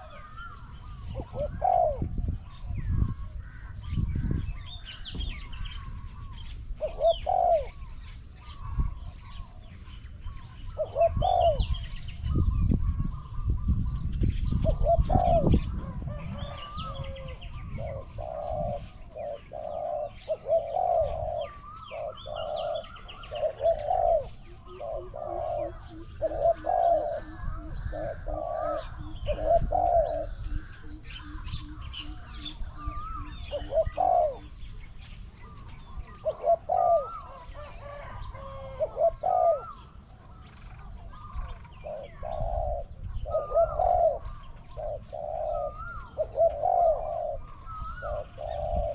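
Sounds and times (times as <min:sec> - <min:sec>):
doves cooing: 0:00.0 - 0:48.9
small birds chirping: 0:00.0 - 0:48.9.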